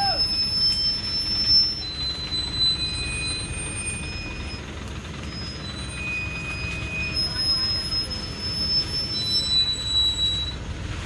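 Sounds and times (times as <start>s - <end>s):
low rumble of engine and tyres: 0.0s - 11.0s
truck brakes squealing: 0.0s - 11.0s.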